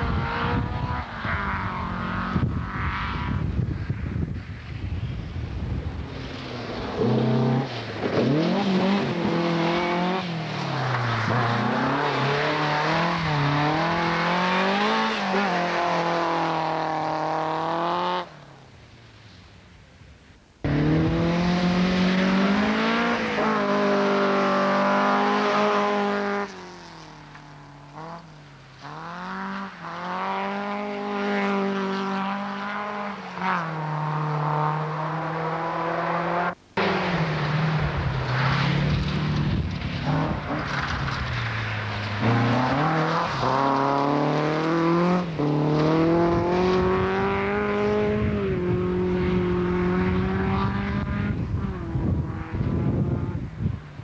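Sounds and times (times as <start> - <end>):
rally car engines at full throttle: 0.0 - 19.3, 20.3 - 54.0.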